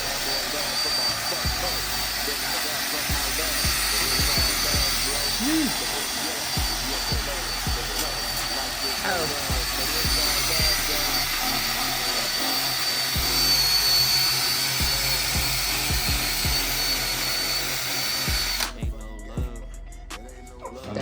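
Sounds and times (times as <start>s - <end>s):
power drill whining: 0.0s - 18.8s
hip hop music with bass beat: 0.0s - 21.0s.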